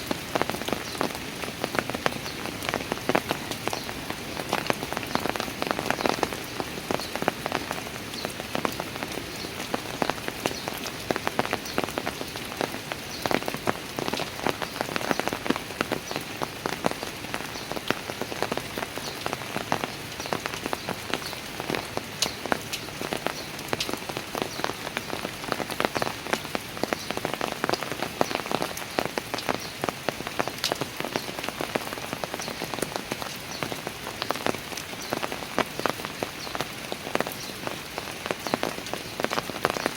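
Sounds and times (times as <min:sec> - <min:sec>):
rain falling on stairs: 0:00.0 - 0:39.9.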